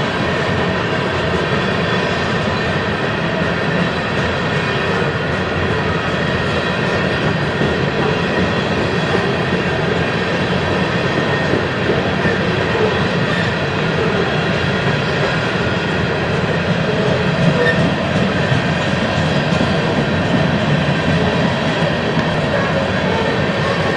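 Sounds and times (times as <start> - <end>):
freight train cars rolling past: 0.0 - 23.9.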